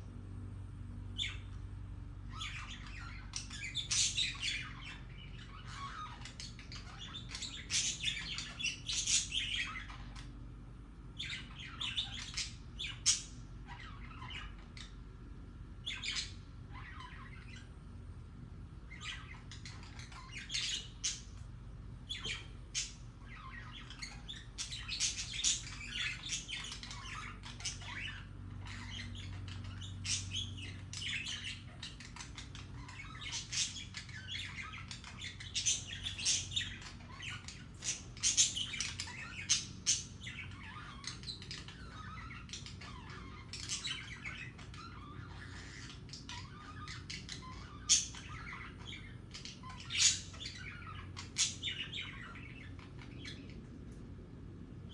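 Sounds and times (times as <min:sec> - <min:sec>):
budgerigars chirping and squawking: 0:01.0 - 0:54.9.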